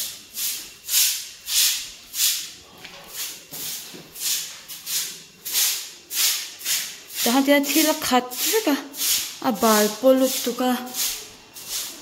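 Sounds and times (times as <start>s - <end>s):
broom sweeping a dusty floor: 0.0s - 12.0s.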